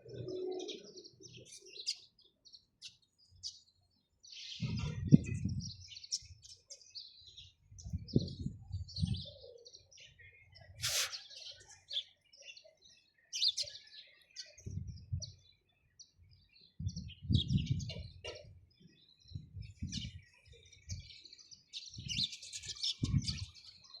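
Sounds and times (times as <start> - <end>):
sparrows chirping: 0.0 - 24.0.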